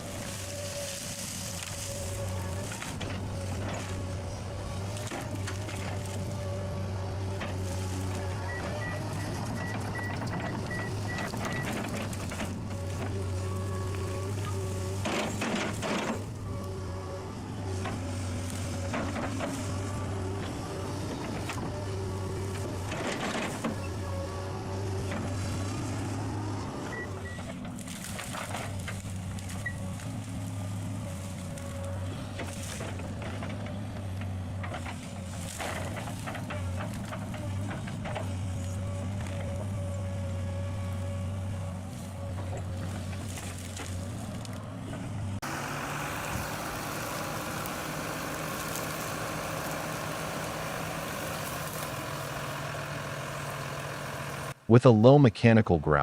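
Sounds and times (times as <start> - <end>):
knocks and crackles: 0.0 - 16.8, 17.6 - 26.4, 27.2 - 54.6
heavy machine engine running: 0.0 - 54.6.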